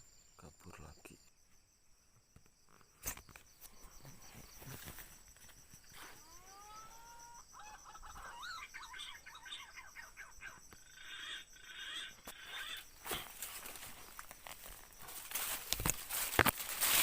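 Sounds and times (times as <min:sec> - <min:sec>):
high insect buzz: 0:01.2 - 0:08.2, 0:09.1 - 0:17.0.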